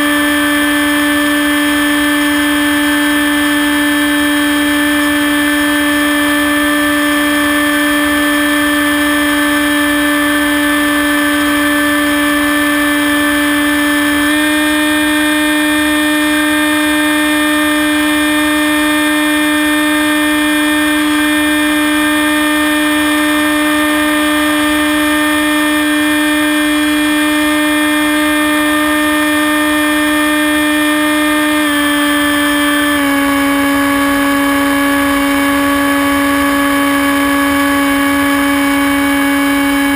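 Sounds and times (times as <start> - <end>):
model plane propeller whining: 0.0 - 39.9.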